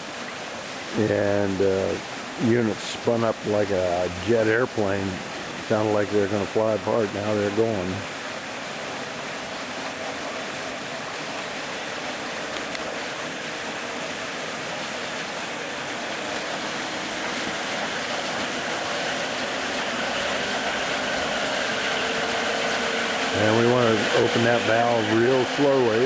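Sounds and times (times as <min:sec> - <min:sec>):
faint generator hum: 0:00.0 - 0:26.0
rush of water jets: 0:00.0 - 0:26.0.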